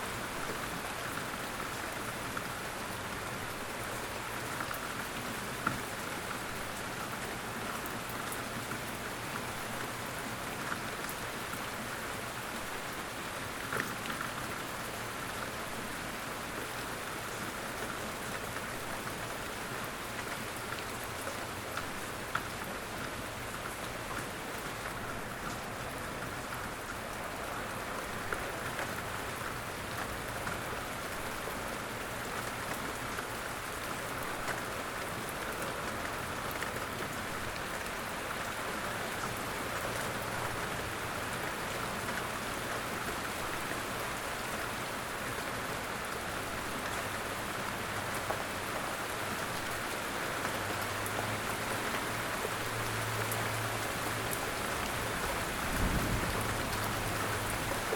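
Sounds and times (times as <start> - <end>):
light rain falling: 0.0 - 57.9.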